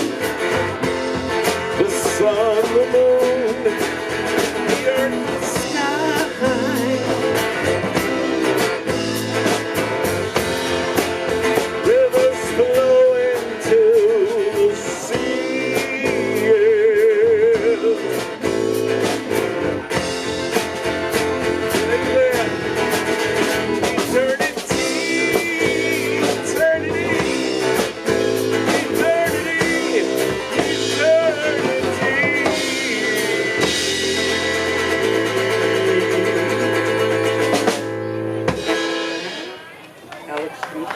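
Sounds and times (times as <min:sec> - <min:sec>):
lead guitar bending pitch: 0:00.0 - 0:39.8
live band playing: 0:00.0 - 0:40.9.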